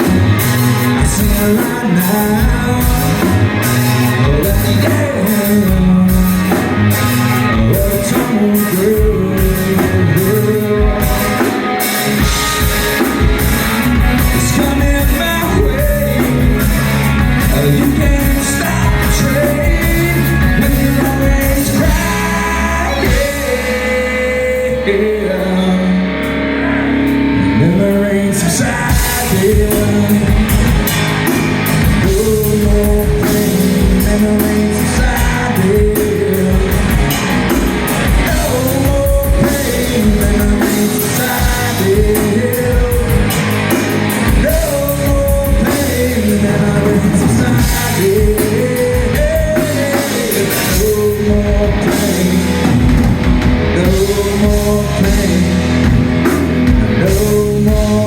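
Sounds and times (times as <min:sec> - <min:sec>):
drum kit beat: 0:00.0 - 0:24.2, 0:28.6 - 0:58.0
electric guitar: 0:00.0 - 0:58.0
sung vocals: 0:00.0 - 0:58.0.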